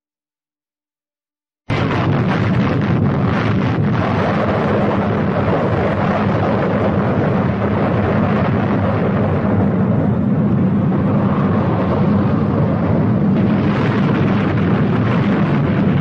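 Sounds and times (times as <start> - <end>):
crackling: 1.7 - 16.0
explosion rumble: 1.7 - 16.0.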